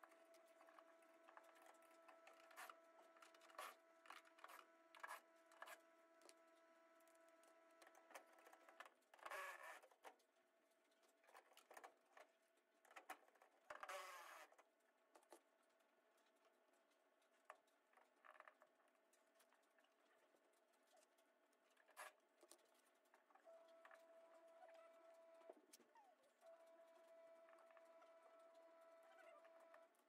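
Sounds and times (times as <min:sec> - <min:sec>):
faint steady hum: 0:00.0 - 0:09.6, 0:13.8 - 0:30.0.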